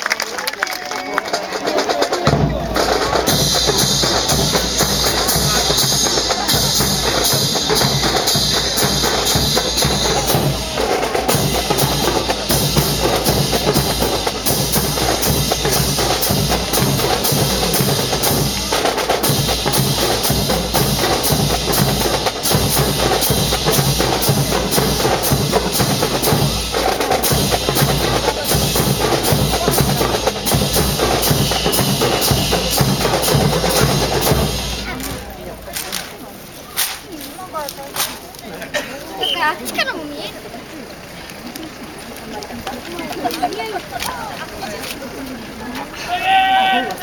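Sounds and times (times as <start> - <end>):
marching snare and bass drums: 1.2 - 47.0.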